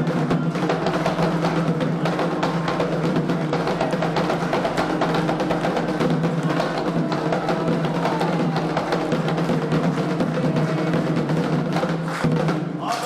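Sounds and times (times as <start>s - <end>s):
hand drums and percussion: 0.0s - 13.0s.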